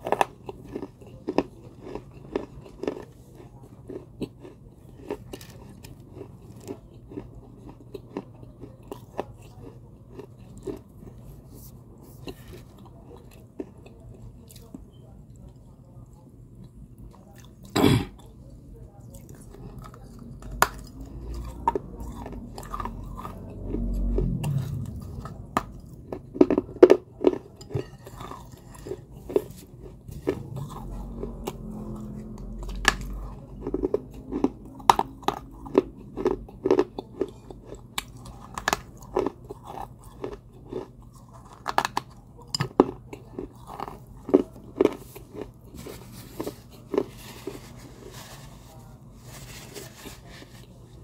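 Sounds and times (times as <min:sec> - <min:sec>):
crunching and chewing pottery shards: 0:00.0 - 0:11.6, 0:12.2 - 0:14.8, 0:19.1 - 0:48.2.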